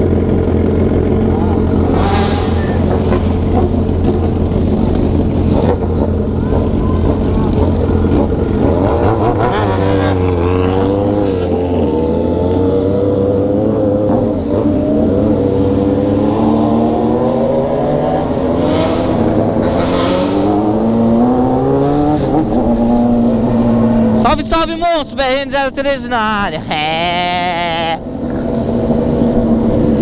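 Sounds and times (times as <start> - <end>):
motorcycle engine accelerating: 0.0 - 25.4, 26.4 - 30.0.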